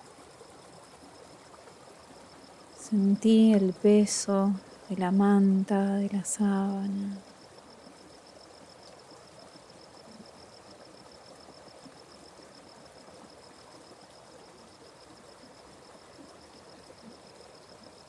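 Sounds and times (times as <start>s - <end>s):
stream flowing softly: 0.0s - 18.0s.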